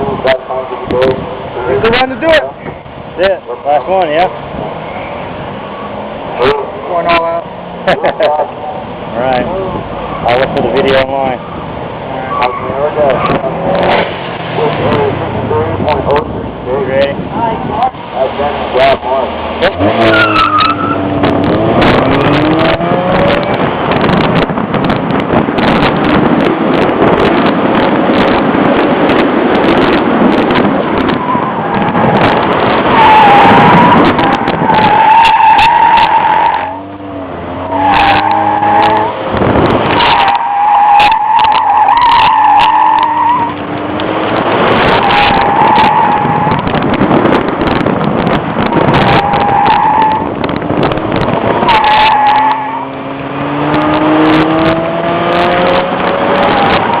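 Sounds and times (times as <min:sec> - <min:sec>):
car engine revving: 0:00.0 - 0:57.0
tires squealing: 0:00.0 - 0:57.0.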